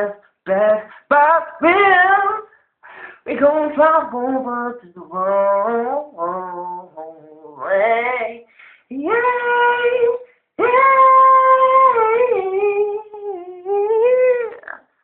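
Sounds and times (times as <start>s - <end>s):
man singing unaccompanied: 0.0s - 2.5s, 3.2s - 14.8s.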